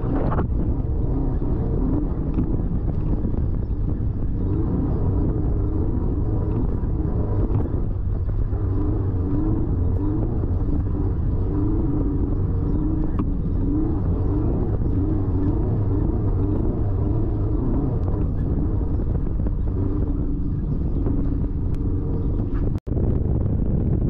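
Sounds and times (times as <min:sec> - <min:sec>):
low drone: 0:00.0 - 0:24.0
race vehicle engine running hard: 0:00.0 - 0:24.0.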